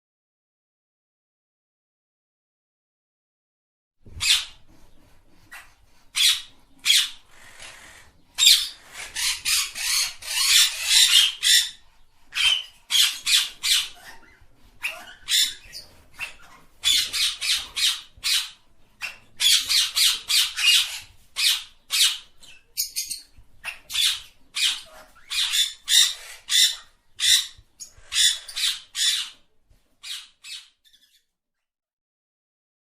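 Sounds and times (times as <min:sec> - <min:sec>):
parrot squawking and chirping: 0:04.1 - 0:31.2.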